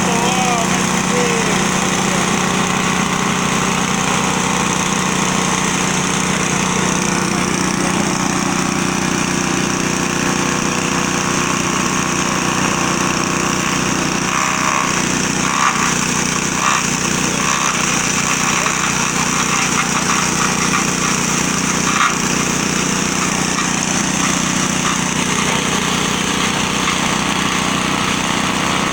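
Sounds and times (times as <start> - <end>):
chopper machine engine hum: 0.0 - 28.9.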